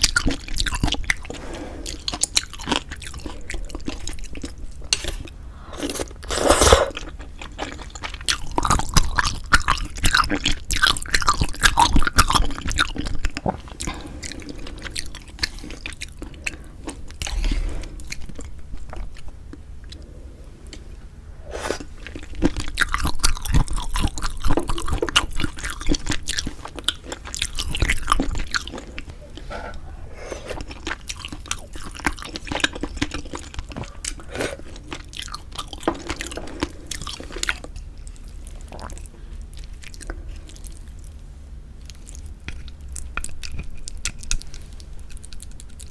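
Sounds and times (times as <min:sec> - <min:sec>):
close chewing and mouth sounds: 0:00.0 - 0:45.9.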